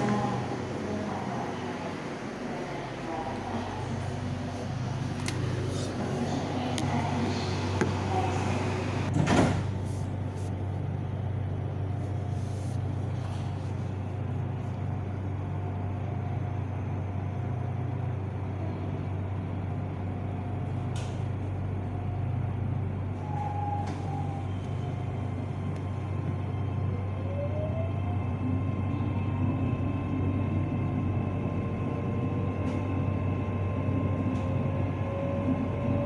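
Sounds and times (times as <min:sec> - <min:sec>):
train interior low hum: 0:00.0 - 0:36.0.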